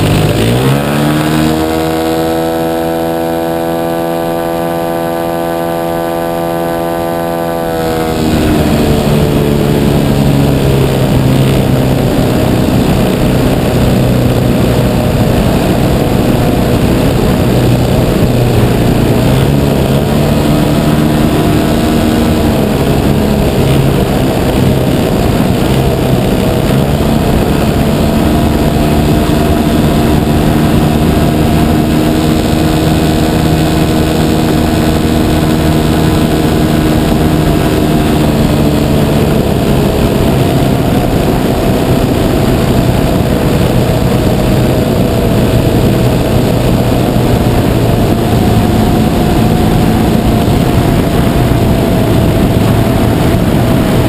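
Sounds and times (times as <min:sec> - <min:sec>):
model plane engine and propeller: 0:00.0 - 0:54.0
wind rushing: 0:00.0 - 0:54.0.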